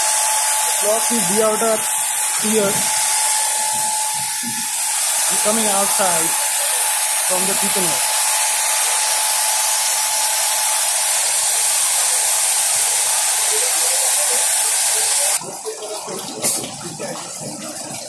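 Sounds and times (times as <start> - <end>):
water spray jets hissing: 0.0 - 18.0.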